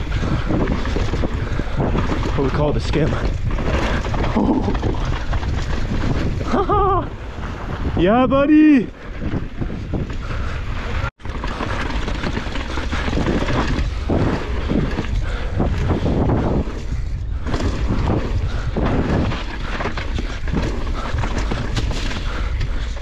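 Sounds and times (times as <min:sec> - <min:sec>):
tyres crunching over loose stones: 0:00.0 - 0:08.0, 0:11.2 - 0:23.0
bike rattling over bumps: 0:00.0 - 0:23.0
wind rumbling on microphone: 0:00.0 - 0:23.0.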